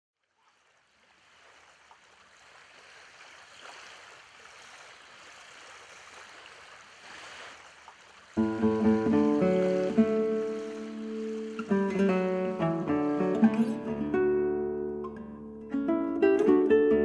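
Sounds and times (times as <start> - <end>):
lake water lapping: 0.2 - 14.0.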